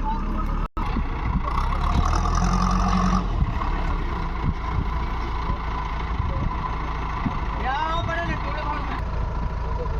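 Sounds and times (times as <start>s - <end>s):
heavy vehicle engine running: 0.0s - 9.9s.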